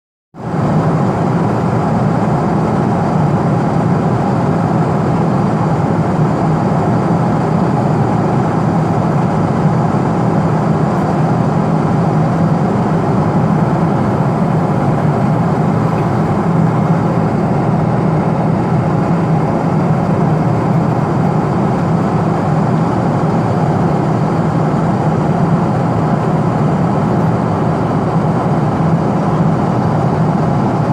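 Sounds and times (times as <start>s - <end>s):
airliner drone in flight: 0.4s - 30.9s.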